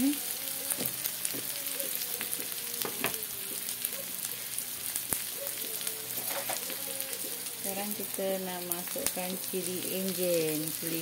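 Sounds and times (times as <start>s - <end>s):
aromatics sizzling in oil: 0.0s - 11.0s.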